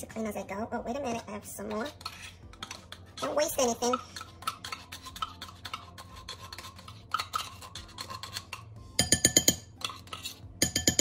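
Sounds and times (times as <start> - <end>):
metal spoon scraping tin can: 1.0 - 8.8, 9.7 - 11.0.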